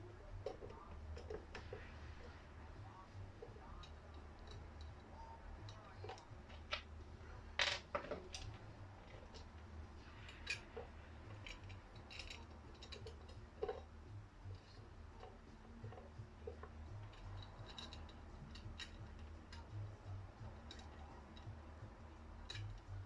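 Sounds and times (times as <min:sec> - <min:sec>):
low steady hum: 0:00.0 - 0:23.0
metallic clinks of parts and tools: 0:00.4 - 0:23.0.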